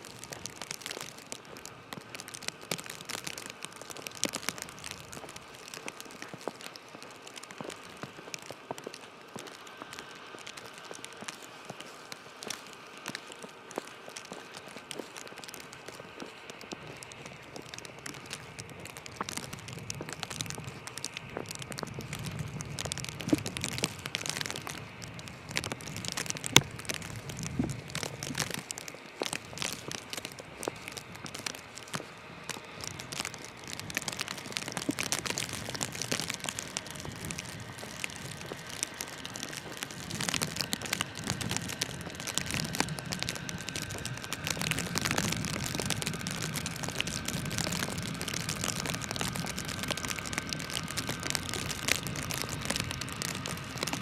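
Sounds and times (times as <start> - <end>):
crackles and clicks: 0.0 - 54.0
faint street hum: 0.0 - 54.0.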